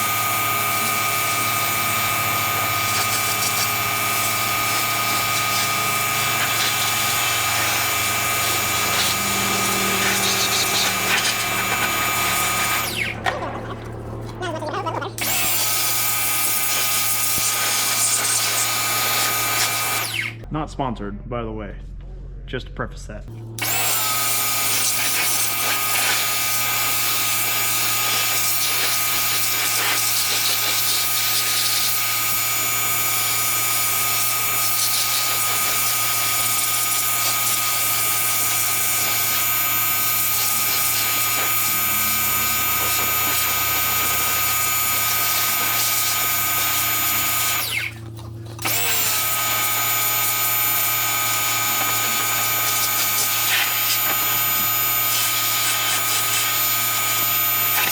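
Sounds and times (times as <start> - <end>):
pressure washer running: 0.0 - 20.5, 23.5 - 57.9.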